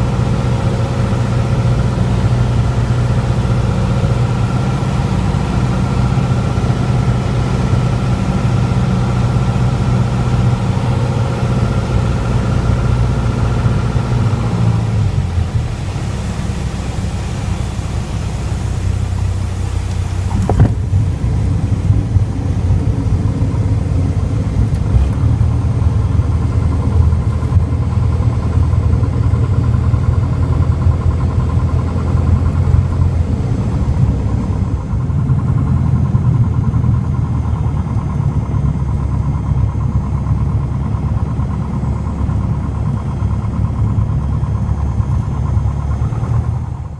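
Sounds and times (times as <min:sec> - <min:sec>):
aircraft engine and propeller: 0:00.0 - 0:46.9.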